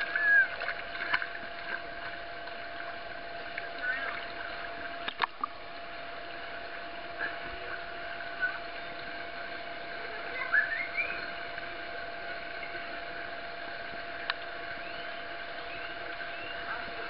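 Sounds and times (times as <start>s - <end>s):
constant hum: 0.0s - 17.0s
fountain running: 0.0s - 17.0s
pool water splashing: 0.0s - 17.0s.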